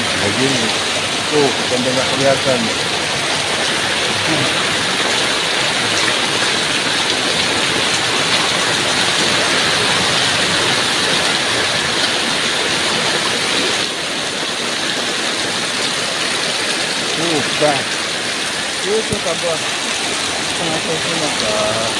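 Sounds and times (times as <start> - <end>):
heavy rain: 0.0 - 21.9
running water: 0.0 - 21.9.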